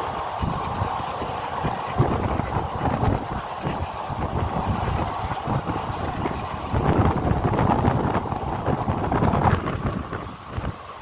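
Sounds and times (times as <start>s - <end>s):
train wheels rumbling and clattering: 0.0s - 11.0s
wind buffeting microphone: 0.0s - 11.0s.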